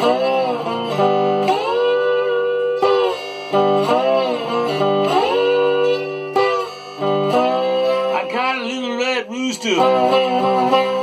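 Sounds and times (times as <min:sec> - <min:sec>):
slide electric guitar blues: 0:00.0 - 0:11.0.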